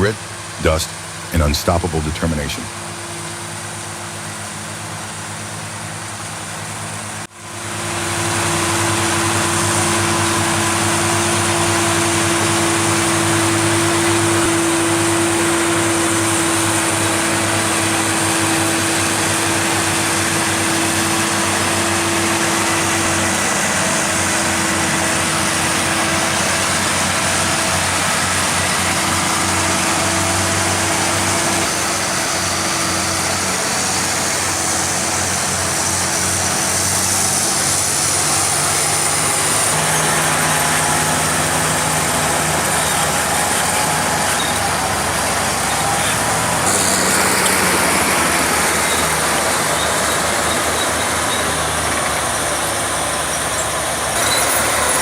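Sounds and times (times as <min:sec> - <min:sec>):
heavy machine engine droning: 0:00.0 - 0:55.0.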